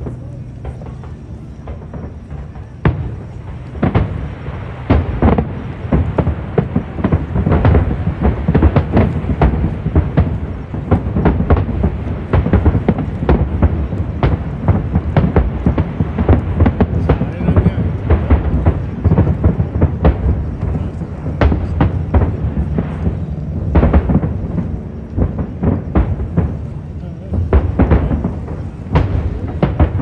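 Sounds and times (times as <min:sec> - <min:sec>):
fireworks bursting: 0:00.0 - 0:30.0
low rumble: 0:00.0 - 0:30.0.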